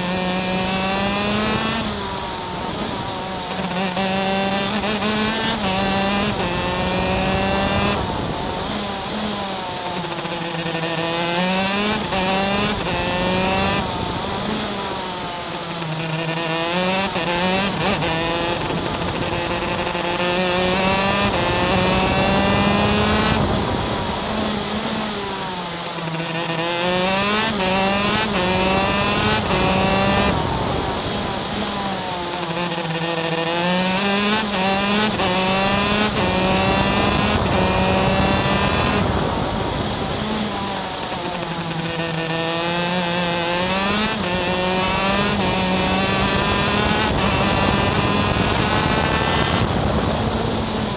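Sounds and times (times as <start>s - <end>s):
kart engine accelerating: 0.0s - 50.9s.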